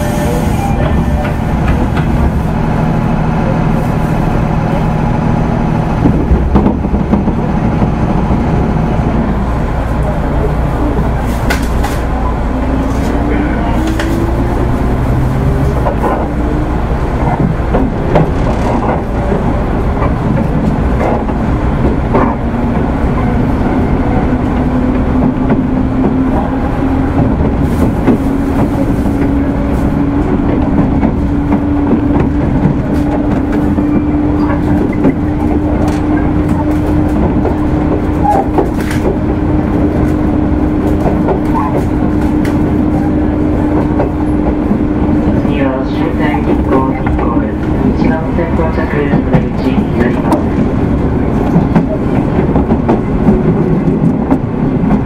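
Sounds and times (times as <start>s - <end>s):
rail joint clicks: 0.0s - 3.5s, 4.7s - 55.0s
wheel and rail rumble: 0.0s - 55.0s.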